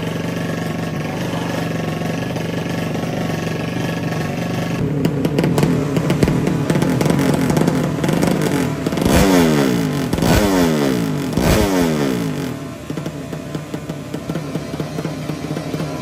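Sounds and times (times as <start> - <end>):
engine revving blips: 0.0 - 16.0
motorcycle engine idling roughly: 0.0 - 16.0.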